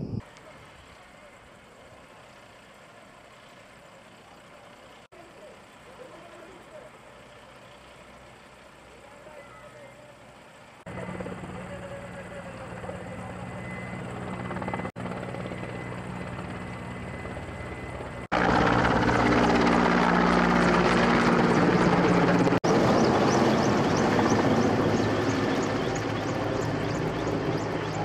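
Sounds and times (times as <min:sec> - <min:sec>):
helicopter turbine and rotor drone: 0:00.0 - 0:28.0.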